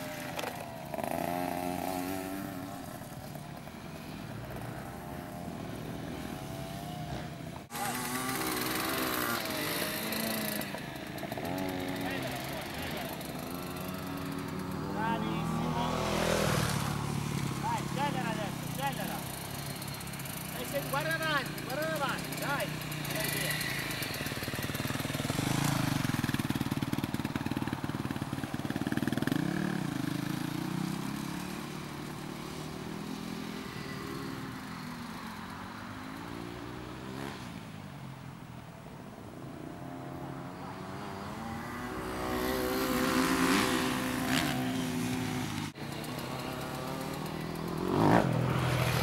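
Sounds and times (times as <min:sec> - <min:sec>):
minibike engine revving: 0:00.0 - 0:37.7, 0:39.6 - 0:49.0.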